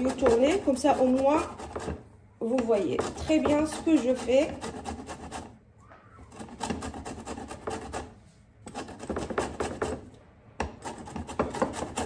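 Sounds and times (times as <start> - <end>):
orange peel grating: 0.0 - 5.6, 6.2 - 12.0.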